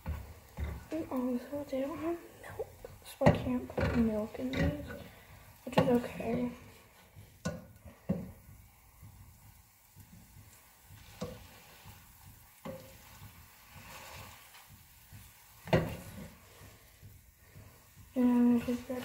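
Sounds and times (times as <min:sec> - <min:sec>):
eggs sizzling in a frying pan: 0:00.0 - 0:19.0
spatula knocking against pan: 0:02.7 - 0:13.9, 0:14.6 - 0:19.0.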